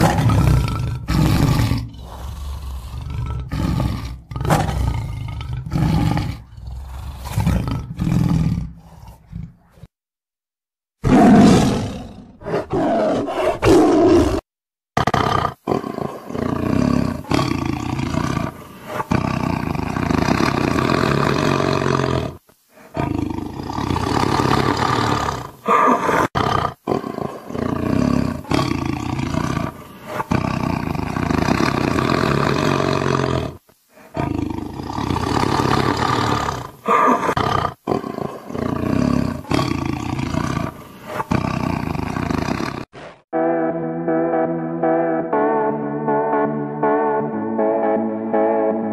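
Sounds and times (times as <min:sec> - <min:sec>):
tiger roaring: 0:00.0 - 0:09.9, 0:11.0 - 0:14.4, 0:15.0 - 0:43.2.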